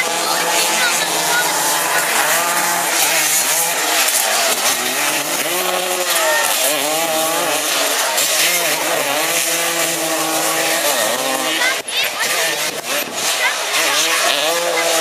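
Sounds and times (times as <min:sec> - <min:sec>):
small racing engines revving: 0:00.0 - 0:15.0.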